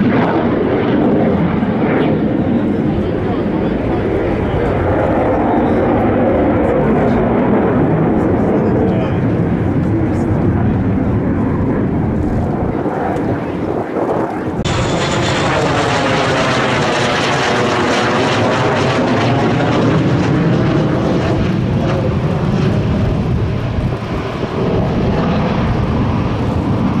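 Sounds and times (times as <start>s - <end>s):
jet engine flying overhead: 0.0s - 27.0s.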